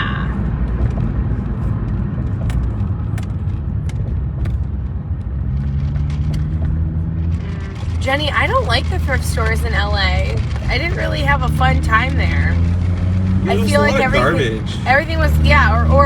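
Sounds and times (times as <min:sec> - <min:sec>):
engine hum: 0:00.0 - 0:16.0
road and engine rumble: 0:00.0 - 0:16.0.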